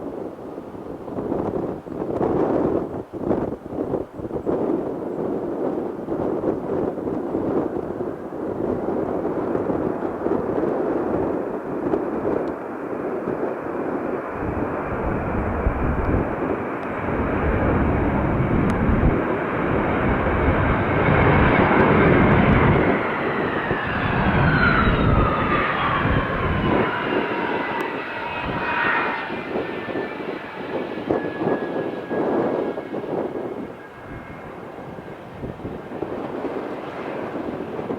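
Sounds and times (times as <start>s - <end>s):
jet airliner passing: 0.0s - 37.9s
jet engine whines: 0.0s - 37.9s.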